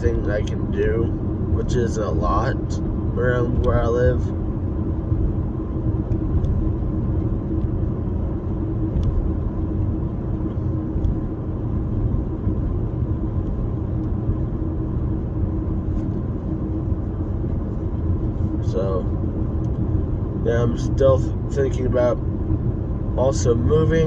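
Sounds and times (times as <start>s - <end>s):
car cabin road and engine rumble: 0.0s - 24.0s.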